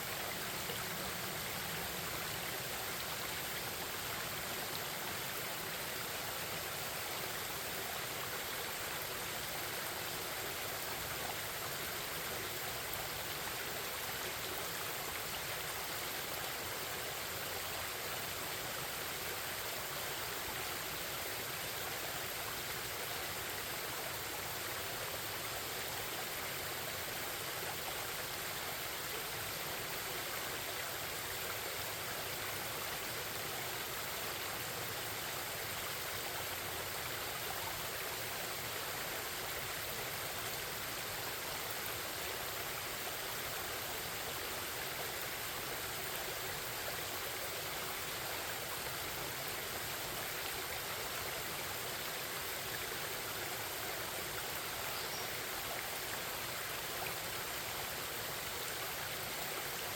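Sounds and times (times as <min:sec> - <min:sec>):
stream babbling and rushing: 0:00.0 - 0:59.9.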